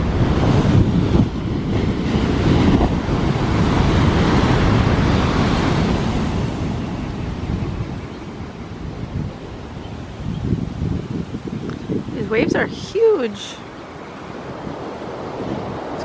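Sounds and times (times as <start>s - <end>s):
ocean surf breaking on shore: 0.0s - 16.0s
wind buffeting microphone: 0.0s - 16.0s.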